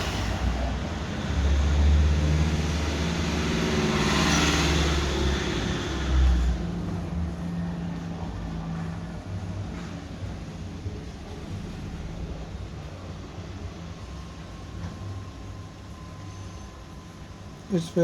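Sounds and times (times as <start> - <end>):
vehicle engine rumble passing: 0.0 - 16.1.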